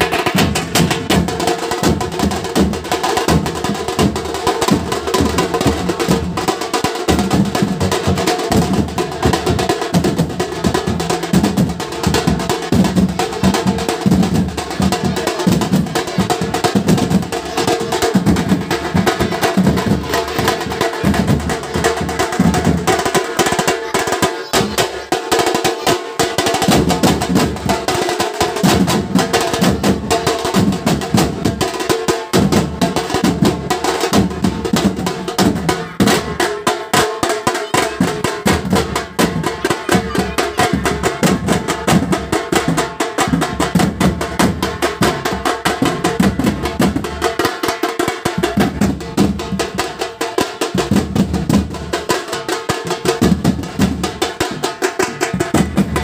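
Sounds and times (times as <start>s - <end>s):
large drums beaten with sticks: 0.0s - 56.0s
small drums in rapid rolls: 0.0s - 56.0s.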